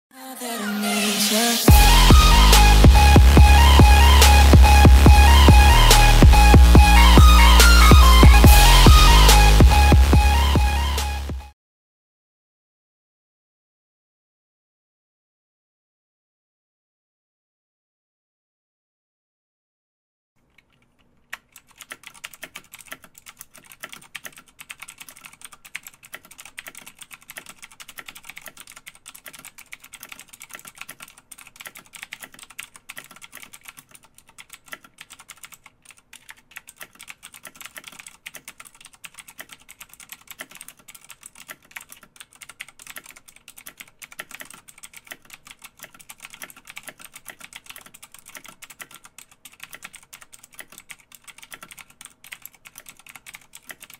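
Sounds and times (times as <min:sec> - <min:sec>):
keyboard typing: 0:01.7 - 0:11.4, 0:20.4 - 0:53.9.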